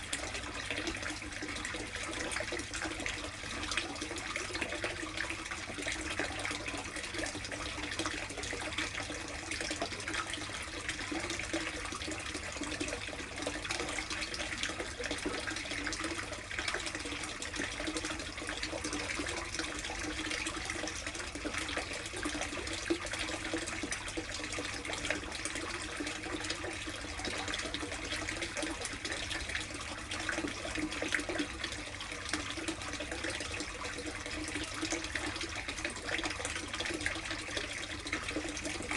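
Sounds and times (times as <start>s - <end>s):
water splashing into a tub: 0.0s - 38.9s.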